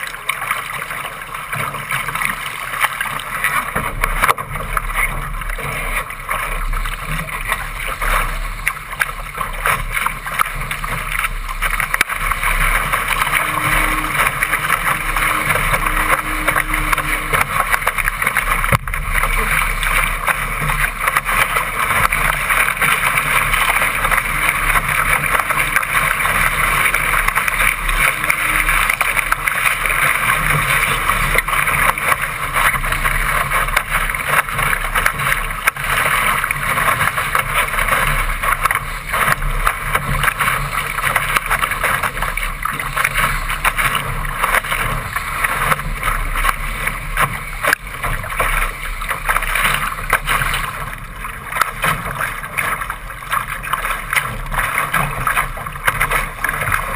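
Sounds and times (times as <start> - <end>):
water rushing past boat: 0.0 - 56.9.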